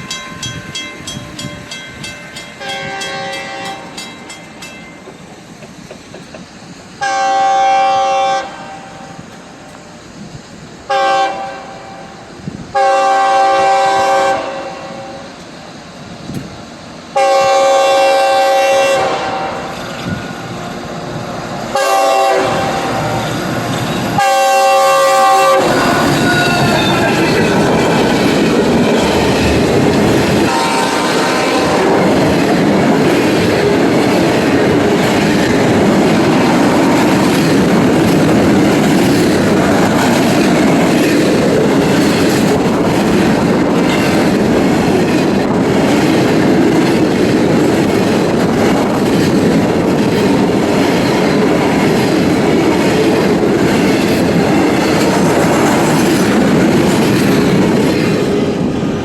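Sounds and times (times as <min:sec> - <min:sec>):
train wheels rumbling over rails: 0:00.0 - 0:59.0.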